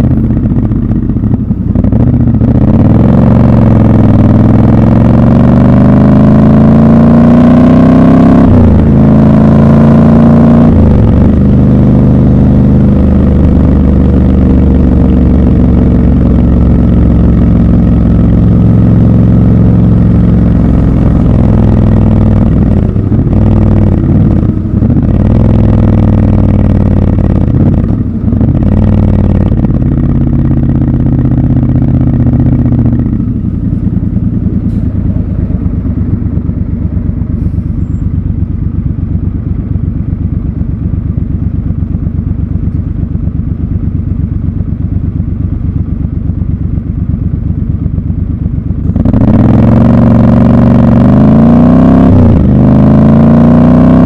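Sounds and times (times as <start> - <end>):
motorcycle engine idling: 0.0 - 5.0, 11.0 - 49.7
motorcycle engine revving: 0.0 - 54.0.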